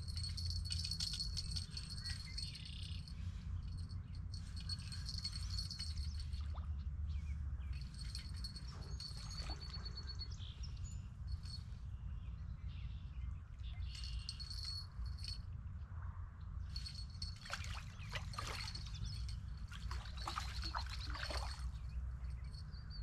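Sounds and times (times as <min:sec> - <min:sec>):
songbirds singing: 0:00.0 - 0:15.8, 0:16.6 - 0:23.0.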